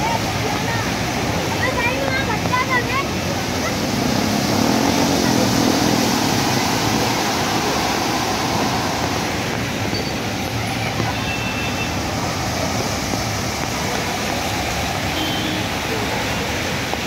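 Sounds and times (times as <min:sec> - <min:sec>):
traffic: 0:00.0 - 0:17.0
truck wheels churning water: 0:00.0 - 0:17.0.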